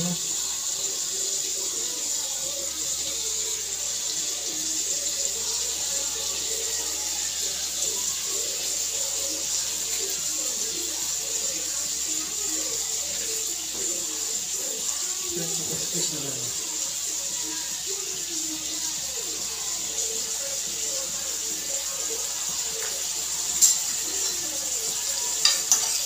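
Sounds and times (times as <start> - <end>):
oil sizzling in frying pan: 0.0 - 26.0.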